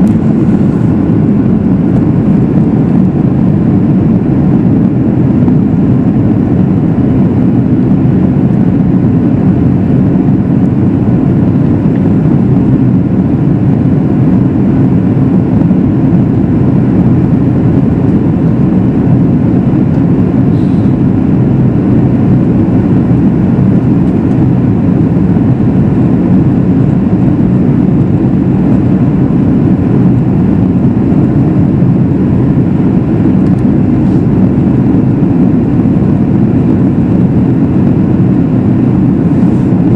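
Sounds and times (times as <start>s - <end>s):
jet cabin airflow and engine noise: 0.0s - 39.9s.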